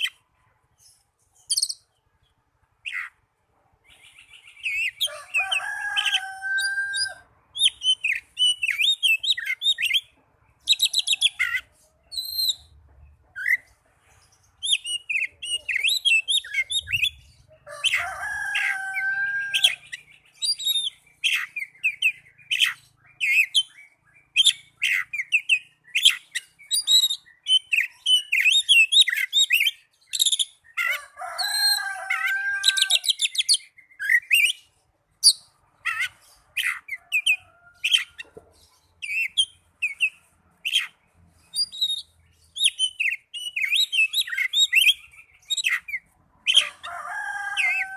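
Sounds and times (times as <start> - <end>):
bird song chirps and trills: 0.0 - 47.9.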